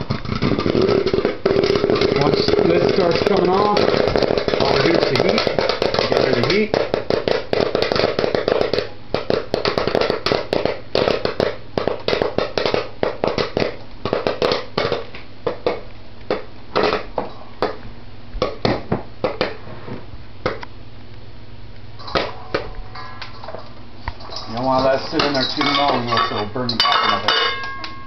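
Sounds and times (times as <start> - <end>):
popcorn popping in covered pot: 0.0 - 17.8, 18.4 - 19.6, 21.8 - 28.0.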